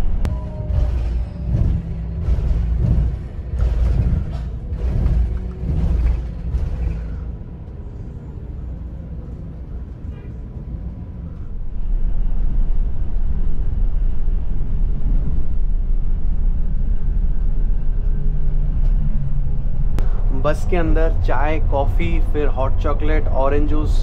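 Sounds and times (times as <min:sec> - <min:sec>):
coach engine rumble: 0:00.0 - 0:24.0.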